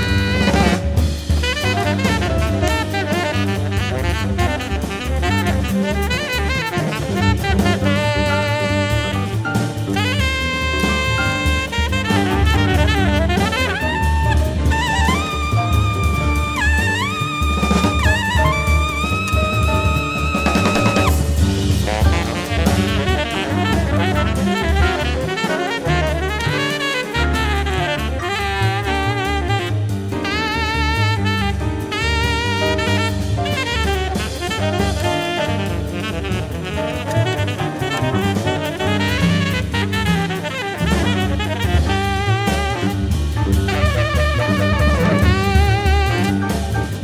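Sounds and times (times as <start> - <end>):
bass: 0.0 - 47.0
drum kit: 0.0 - 47.0
saxophone melody: 0.0 - 47.0.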